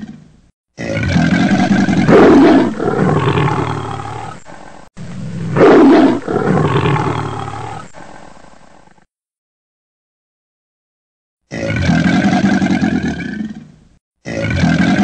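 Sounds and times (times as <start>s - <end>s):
big cat roaring: 0.0s - 9.0s, 11.5s - 15.0s.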